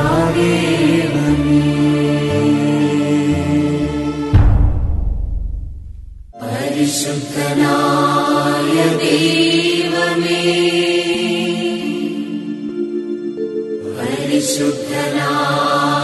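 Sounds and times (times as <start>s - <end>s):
slow devotional chant music: 0.0s - 4.7s, 6.4s - 16.0s.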